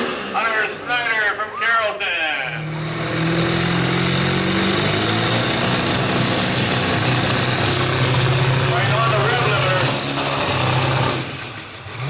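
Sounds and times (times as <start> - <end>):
vehicle engine at high revs: 0.0 - 1.4, 2.0 - 12.0.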